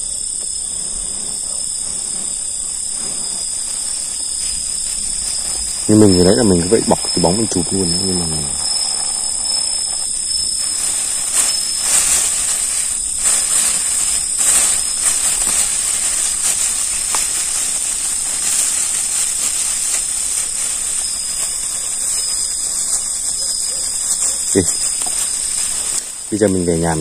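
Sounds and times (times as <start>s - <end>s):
plastic bag crackling: 0.0s - 27.0s
steady high hiss: 0.0s - 27.0s.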